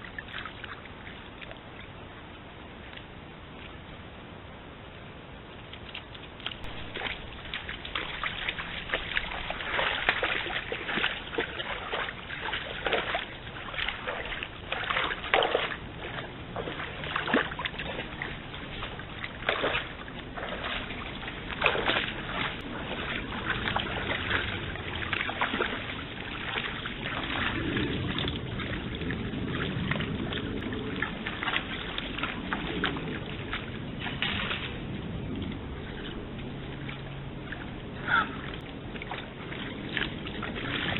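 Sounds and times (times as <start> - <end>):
water splashing around legs: 0.0 - 2.0, 5.5 - 40.9.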